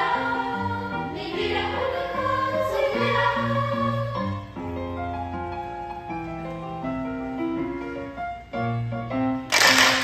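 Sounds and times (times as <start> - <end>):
piano playing chords: 0.0 - 10.0.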